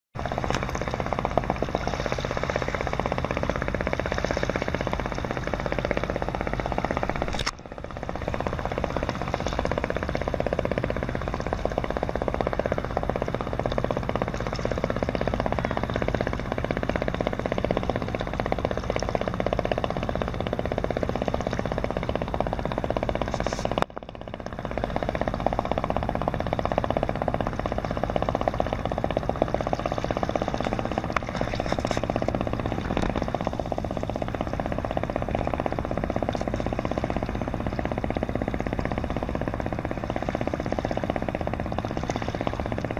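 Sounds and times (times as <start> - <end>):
boat engine droning: 0.2 - 42.9.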